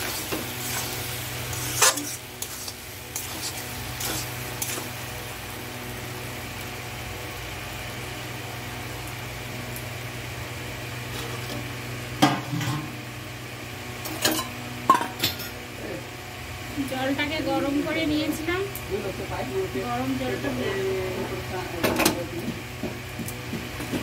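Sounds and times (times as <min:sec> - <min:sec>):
curry sizzling in a pan: 0:00.0 - 0:24.0.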